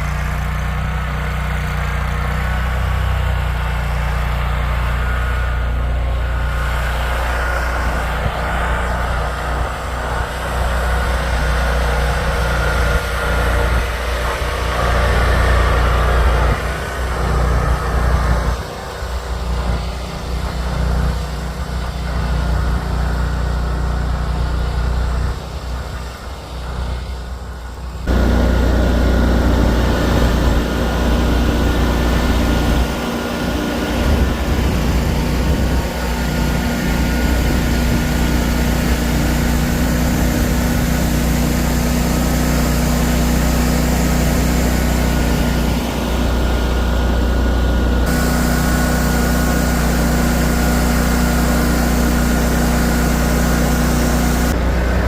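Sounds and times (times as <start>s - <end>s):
engine running: 0.0s - 55.0s
thin high whine: 4.7s - 55.0s.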